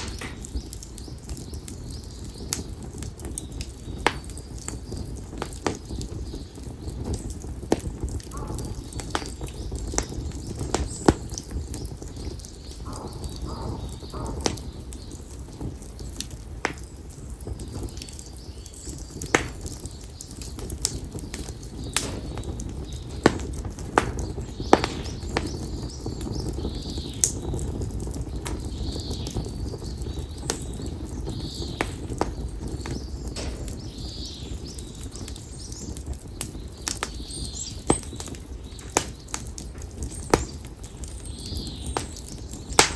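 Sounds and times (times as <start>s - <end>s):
firewood crackling and popping: 0.0s - 42.9s
low rumble of flames: 0.0s - 42.9s.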